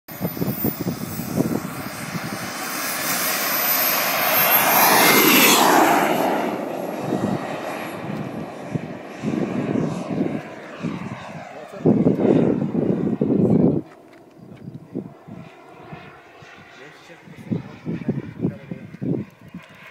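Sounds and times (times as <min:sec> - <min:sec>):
model jet flying past: 0:00.1 - 0:19.9.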